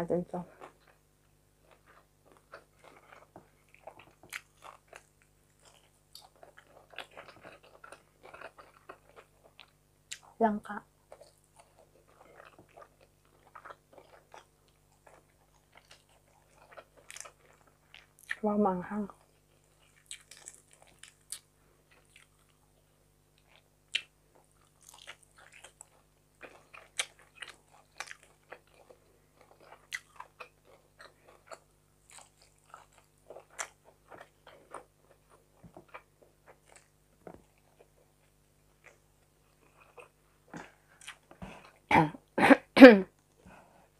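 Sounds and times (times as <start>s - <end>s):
chewing fried fish: 0.4s - 41.9s.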